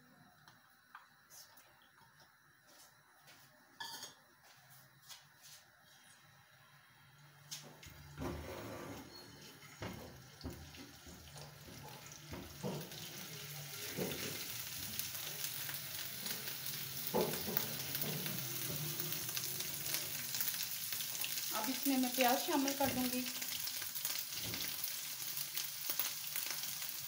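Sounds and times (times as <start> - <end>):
garlic sizzling in oil: 2.1 - 27.0.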